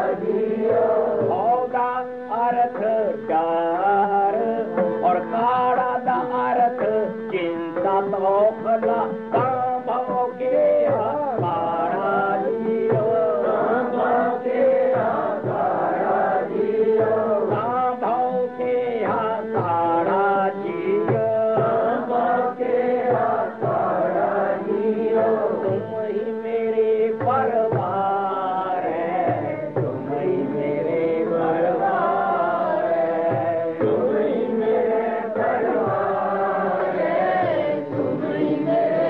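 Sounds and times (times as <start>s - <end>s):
person singing a hymn: 0.0s - 39.0s.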